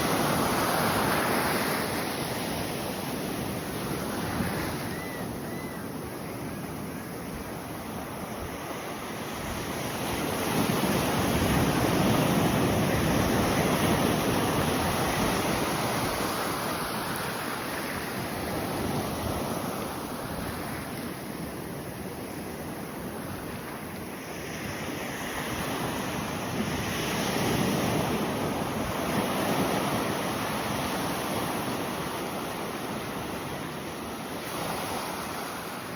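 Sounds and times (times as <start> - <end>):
ocean surf breaking on beach: 0.0 - 35.9.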